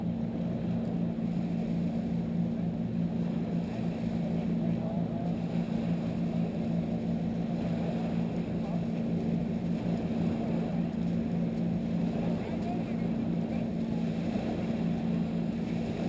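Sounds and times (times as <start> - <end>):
motorboat engine humming: 0.0 - 16.0.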